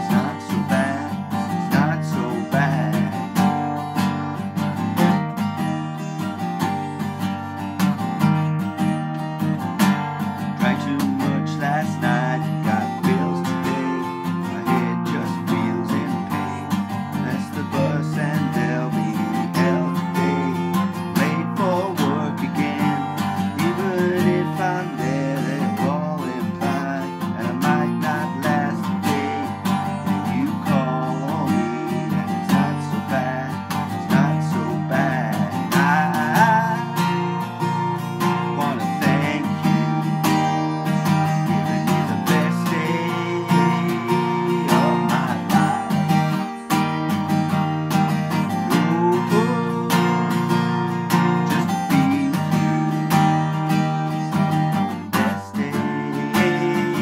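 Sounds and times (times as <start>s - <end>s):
man singing: 0.0s - 4.9s, 9.9s - 57.0s
strummed acoustic guitar: 0.0s - 57.0s.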